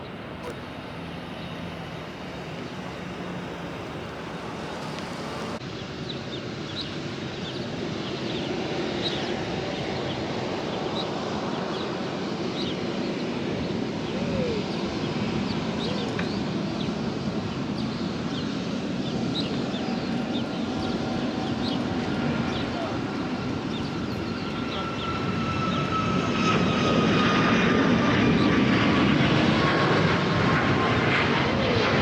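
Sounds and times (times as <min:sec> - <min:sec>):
small birds chirping: 0:00.0 - 0:27.3
distant jet engines rumbling: 0:00.0 - 0:32.0.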